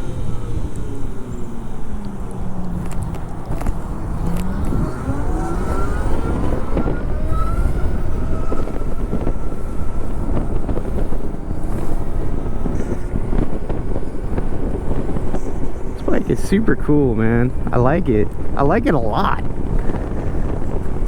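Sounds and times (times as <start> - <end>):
electric motorcycle motor whining: 0.0 - 21.0
heavy wind: 0.0 - 21.0
road rumble: 0.0 - 21.0.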